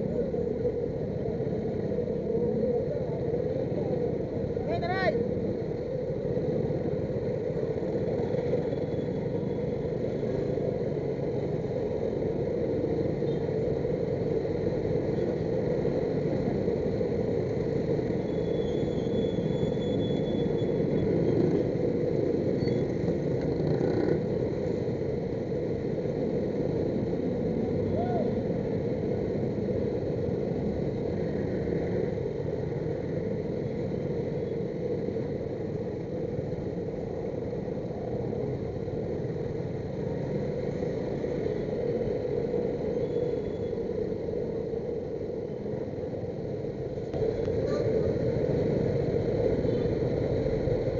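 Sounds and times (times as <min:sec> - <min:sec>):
road noise: 0:00.0 - 0:50.9.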